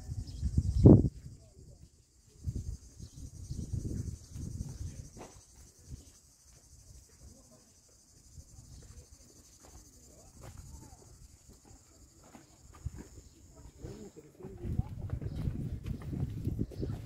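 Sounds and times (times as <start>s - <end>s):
insects chirring: 0.0s - 15.7s
faint distant voices: 1.2s - 17.0s.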